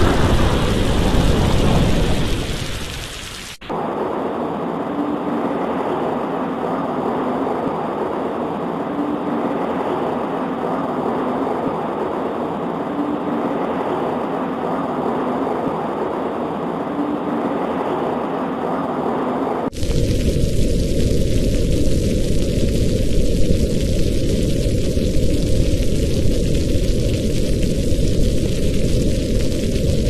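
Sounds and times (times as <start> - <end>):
heavy rain rushing: 0.0 - 30.0.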